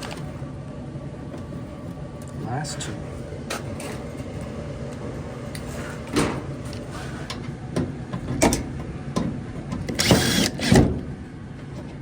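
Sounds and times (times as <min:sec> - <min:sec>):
clothes dryer running: 0:00.0 - 0:12.0.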